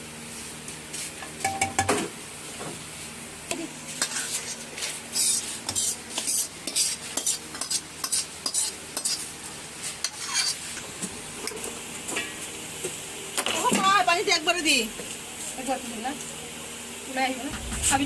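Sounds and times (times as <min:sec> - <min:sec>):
frying sizzle: 0:00.0 - 0:18.0.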